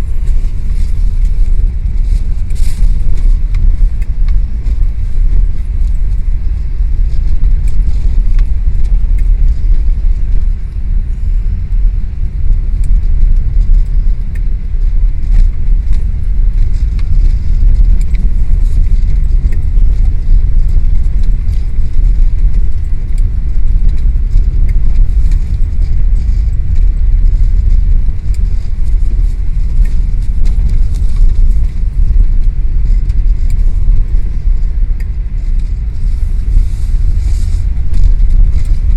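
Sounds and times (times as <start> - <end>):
wind buffeting the microphone: 0.0 - 38.9.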